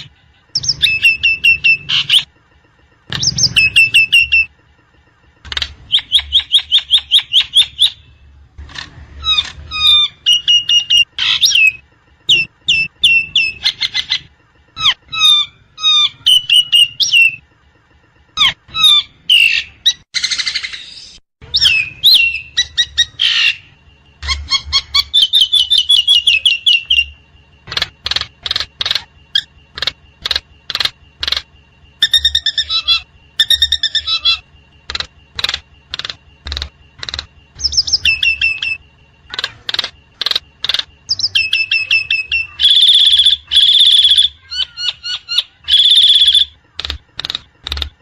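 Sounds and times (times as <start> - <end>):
bird chattering and whistling: 0.0 - 2.3, 3.1 - 4.5, 5.5 - 8.2, 9.2 - 17.4, 18.3 - 48.0.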